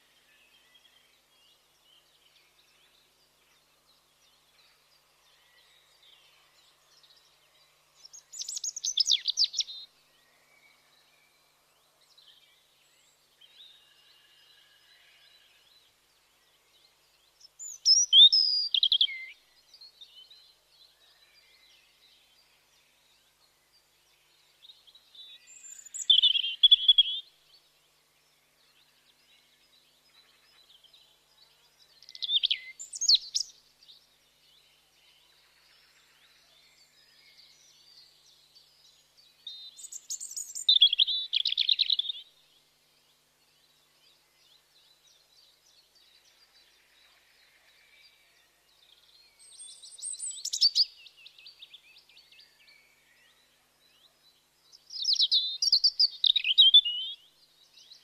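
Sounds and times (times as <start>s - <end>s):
faint bird chirps: 0.0s - 27.6s, 28.4s - 58.0s
songbird singing: 0.0s - 58.0s.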